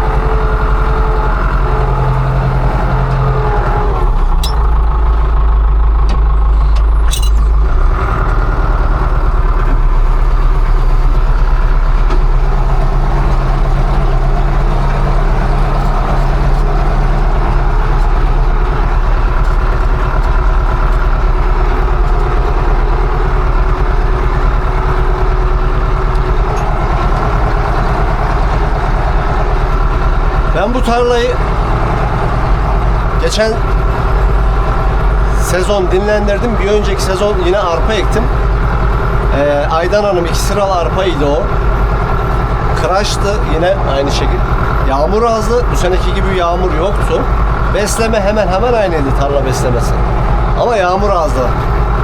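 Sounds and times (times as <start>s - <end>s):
diesel engine running under load: 0.0s - 52.0s.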